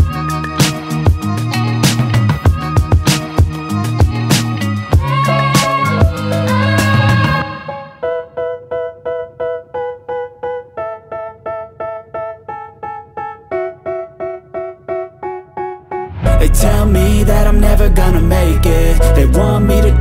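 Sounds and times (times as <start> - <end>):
keyboard repeating pattern: 0.0 - 20.0.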